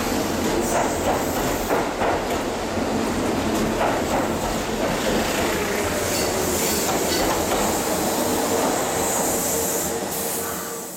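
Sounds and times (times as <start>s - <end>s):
train running past: 0.0s - 10.9s.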